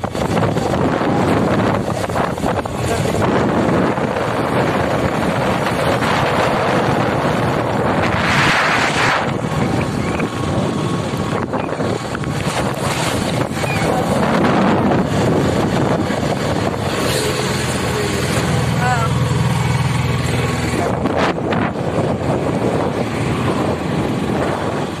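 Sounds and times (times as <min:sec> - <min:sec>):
vehicle road noise: 0:00.0 - 0:25.0
wind on microphone: 0:00.0 - 0:25.0.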